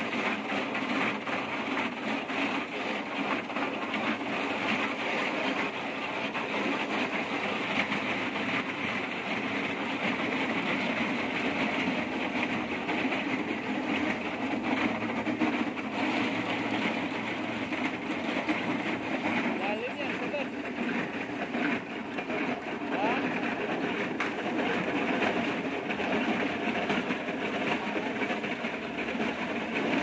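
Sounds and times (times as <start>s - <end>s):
machine engine running: 0.0s - 30.0s.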